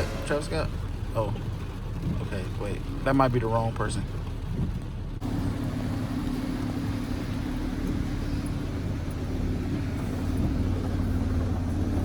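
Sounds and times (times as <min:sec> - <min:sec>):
car engine idling: 0:00.0 - 0:12.0
heavy rain on a car: 0:00.7 - 0:12.0.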